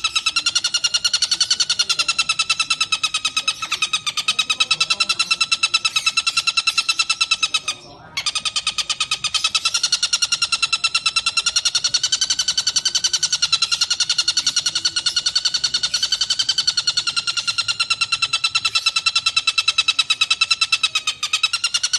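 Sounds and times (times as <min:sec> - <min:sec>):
kingfisher rattling call: 0:00.0 - 0:21.9.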